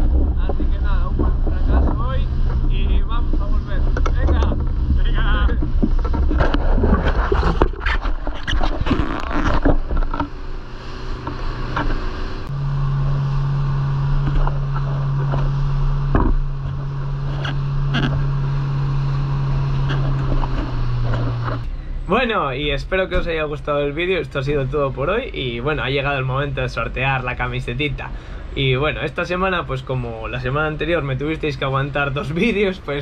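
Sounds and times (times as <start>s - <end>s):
boat engine drone: 0.0s - 33.0s.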